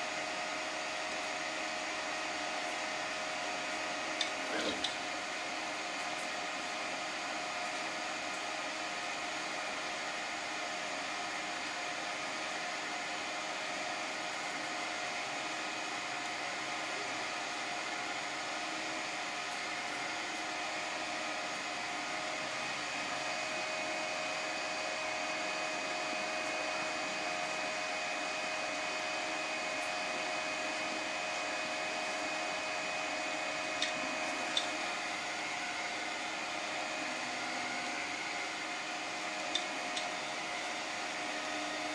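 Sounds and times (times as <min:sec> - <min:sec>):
printer whirring hum with whine: 0:00.0 - 0:41.9.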